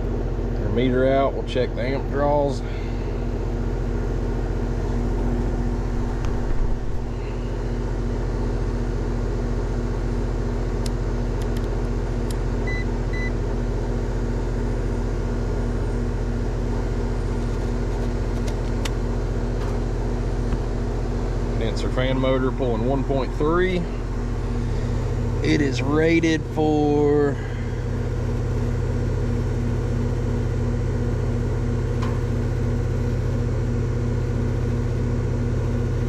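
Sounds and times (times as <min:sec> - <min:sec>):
heat pump humming: 0:00.0 - 0:36.0.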